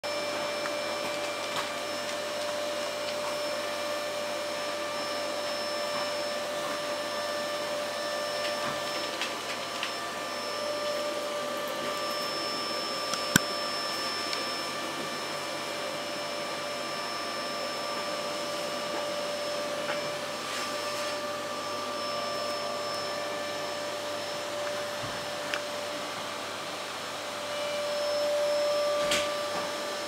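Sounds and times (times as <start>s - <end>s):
electric motor whine: 0.1s - 30.0s.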